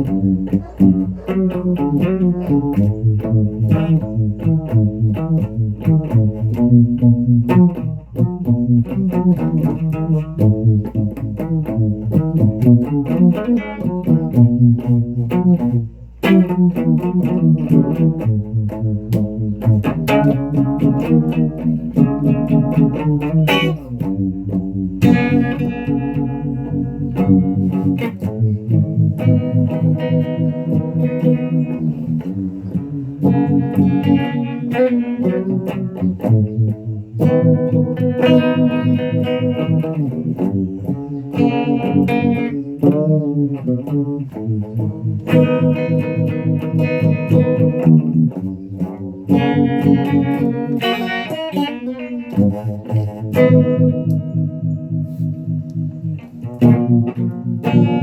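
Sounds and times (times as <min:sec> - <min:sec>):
bass line: 0:00.0 - 0:58.0
guitar music with effects: 0:00.0 - 0:58.0.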